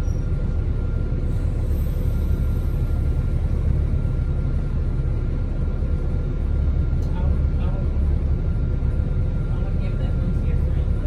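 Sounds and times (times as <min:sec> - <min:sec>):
locomotive idling rumble: 0:00.0 - 0:11.0.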